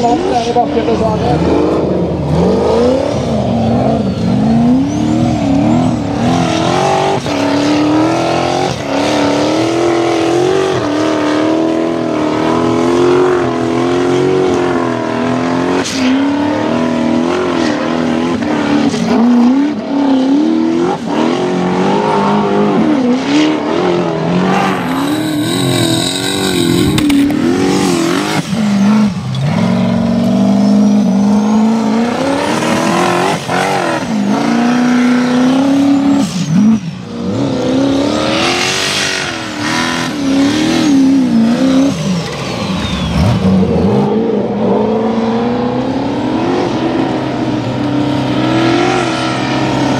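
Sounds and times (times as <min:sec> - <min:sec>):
buggy engine revving: 0:00.0 - 0:49.9.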